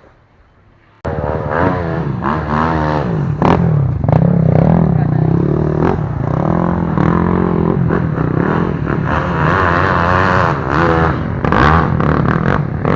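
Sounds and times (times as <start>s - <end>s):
motorcycle engine revving: 1.0s - 12.9s.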